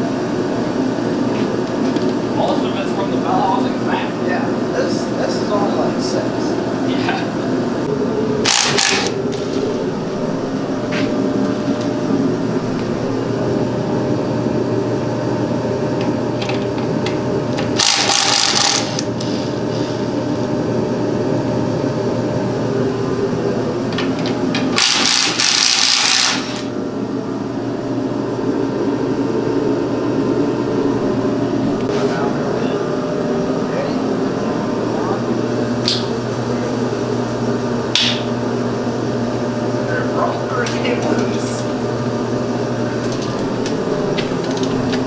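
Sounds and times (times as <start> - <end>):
machine drone: 0.0 - 45.0.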